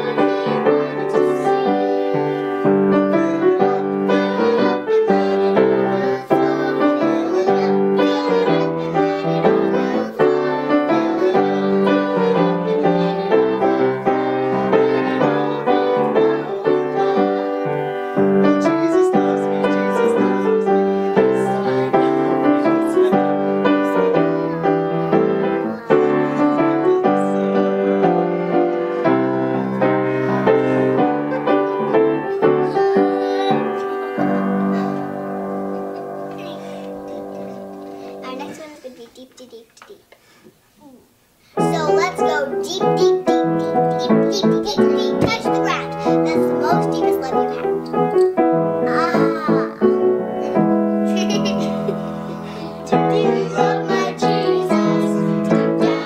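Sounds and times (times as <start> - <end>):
girls singing: 0.0 - 37.6, 43.0 - 56.0
grand piano: 0.0 - 38.7, 41.5 - 56.0.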